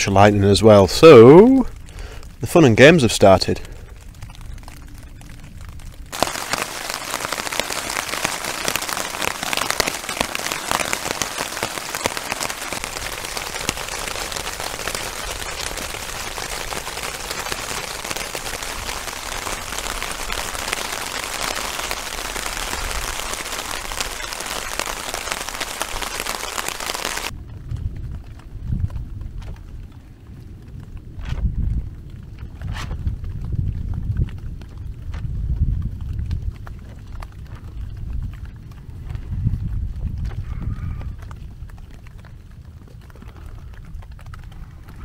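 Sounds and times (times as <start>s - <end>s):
heavy rain on tent fabric: 0.0s - 45.0s.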